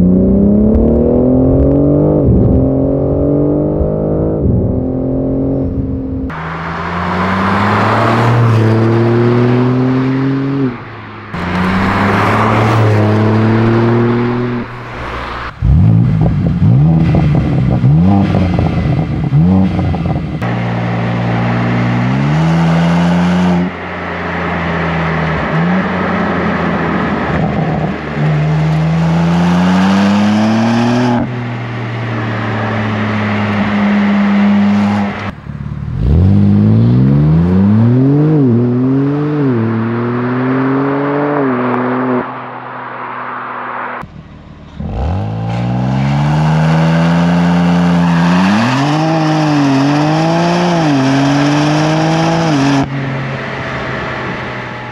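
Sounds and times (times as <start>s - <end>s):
car engine accelerating and revving: 0.0s - 54.9s.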